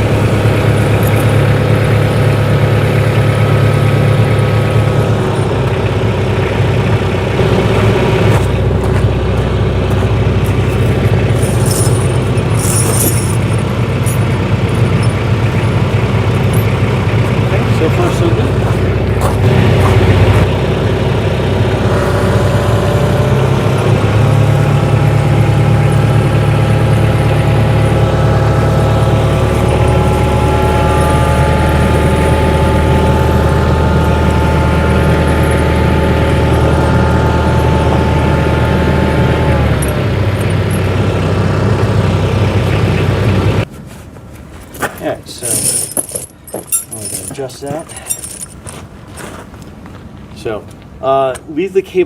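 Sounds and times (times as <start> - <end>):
engine whine: 0.0 - 52.0
tractor engine running: 0.0 - 52.0.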